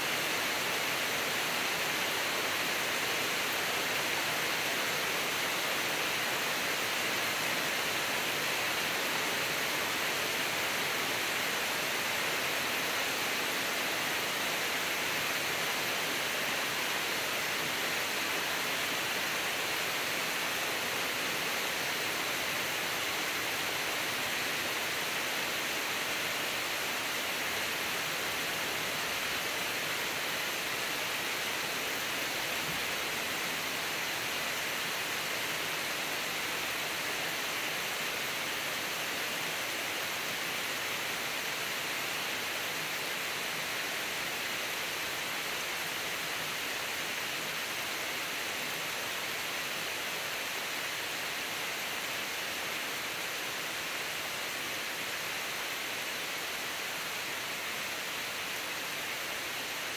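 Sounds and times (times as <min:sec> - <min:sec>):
steady rain on trees: 0:00.0 - 0:59.9.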